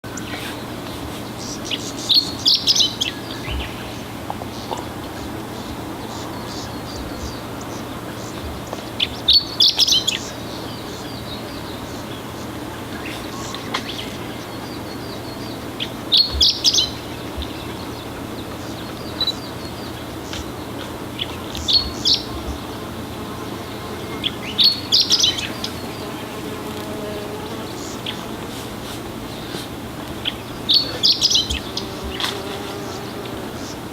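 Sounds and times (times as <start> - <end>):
bird singing: 0.0 - 33.9
steady low hum: 0.0 - 33.9.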